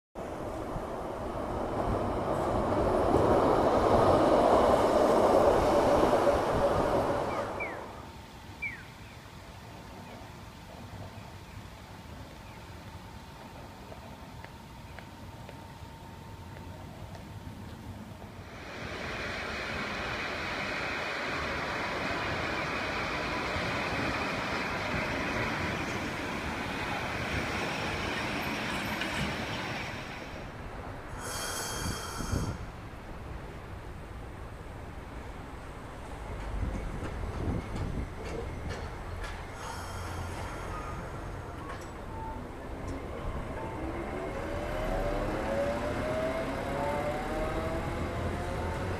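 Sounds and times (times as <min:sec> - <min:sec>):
streetcar motor hum: 0:00.2 - 0:48.9
streetcar wheels rumbling on rails: 0:00.2 - 0:48.9.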